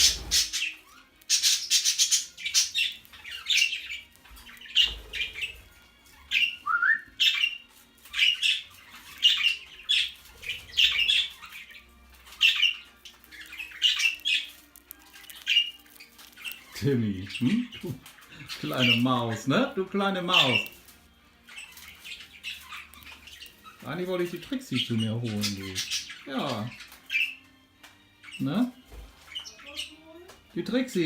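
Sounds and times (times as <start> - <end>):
budgerigar rising chirp: 0.0 - 5.6, 6.2 - 19.6, 20.2 - 20.8, 21.4 - 27.4
budgerigar squawking: 0.0 - 5.6, 6.2 - 20.8, 21.4 - 27.4.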